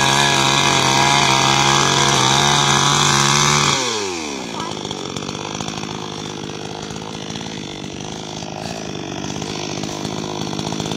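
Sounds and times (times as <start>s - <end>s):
chainsaw engine dropping to idle: 0.0s - 10.9s.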